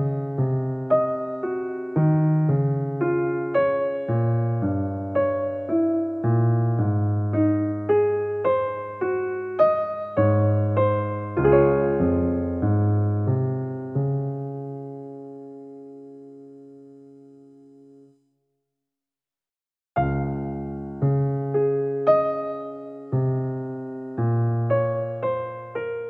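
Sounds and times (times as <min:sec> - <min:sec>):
soft solo piano: 0:00.0 - 0:18.1, 0:20.0 - 0:26.0.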